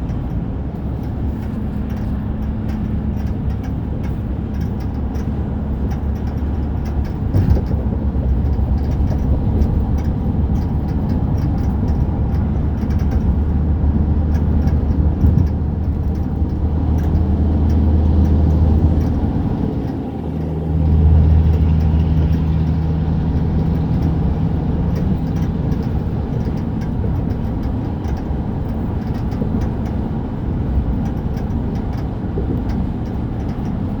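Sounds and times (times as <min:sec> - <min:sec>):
road noise: 0:00.0 - 0:34.0
short rattling ticks: 0:00.0 - 0:34.0
truck engine hum: 0:00.0 - 0:34.0.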